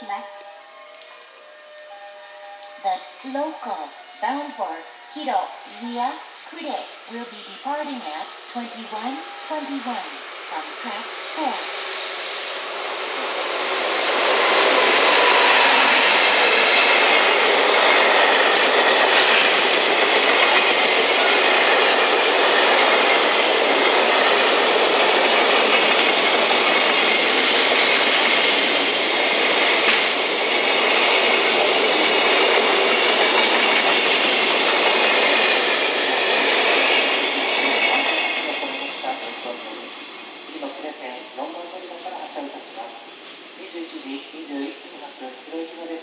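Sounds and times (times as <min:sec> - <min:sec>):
rail clicks: 0:00.0 - 0:45.5
train wheels rumbling on rails: 0:02.6 - 0:46.0.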